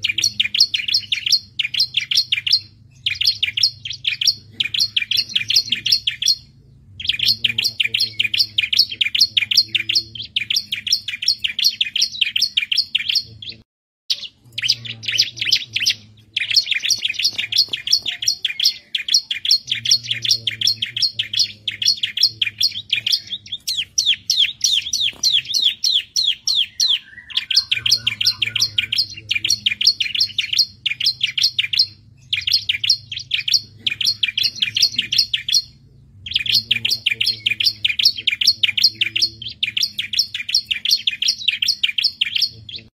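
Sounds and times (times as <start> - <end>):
bird singing high chirps: 0.0 - 42.9.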